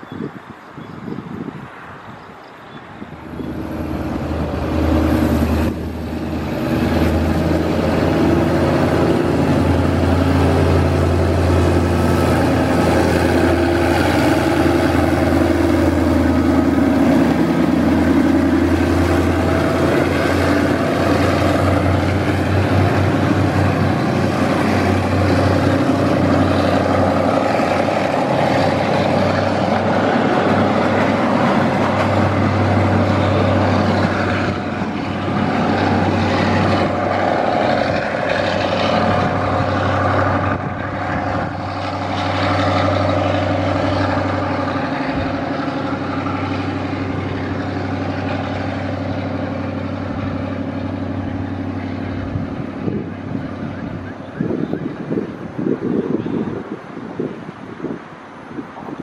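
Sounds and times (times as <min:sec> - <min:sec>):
diesel locomotive engine hum: 0:00.0 - 0:59.0
train coaches rumbling over rails: 0:00.0 - 0:59.0.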